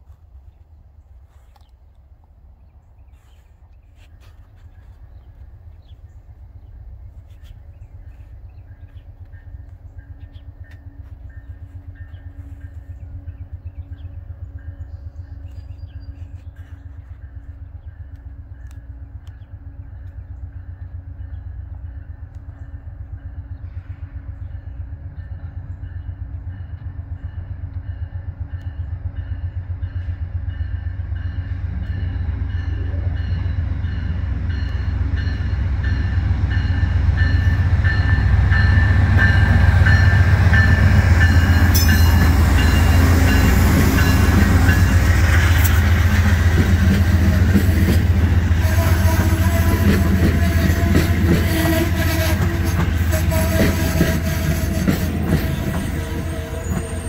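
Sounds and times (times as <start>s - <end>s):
diesel locomotive engine drone: 0.0s - 57.0s
train coaches rumbling on rails: 0.0s - 57.0s.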